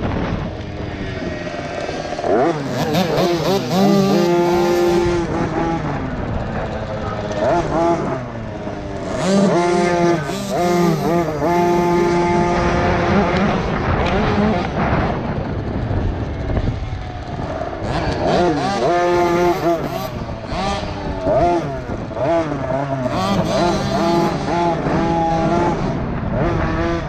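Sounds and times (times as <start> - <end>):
two-stroke motorbike engine revving: 0.0 - 27.0.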